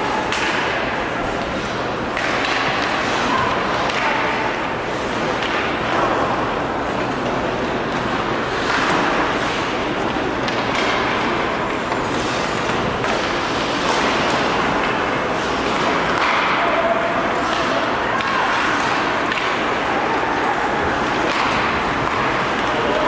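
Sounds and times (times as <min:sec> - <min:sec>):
ice hockey game noise: 0:00.0 - 0:23.0.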